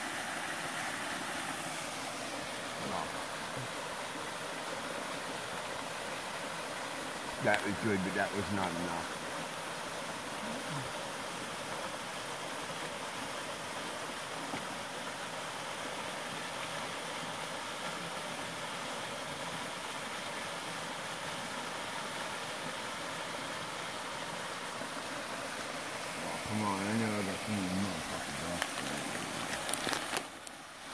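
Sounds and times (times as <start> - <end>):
waterfall rushing: 0.0 - 17.7, 23.1 - 30.9.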